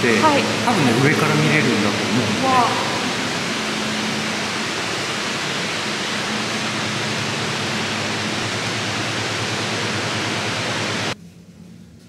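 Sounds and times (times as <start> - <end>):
waterfall rushing roar: 0.0 - 11.2
faint low hum: 0.0 - 12.0.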